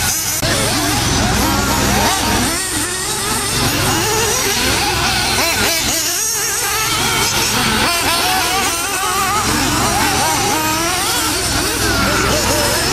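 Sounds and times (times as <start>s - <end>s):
model buggy engines revving: 0.0s - 12.9s.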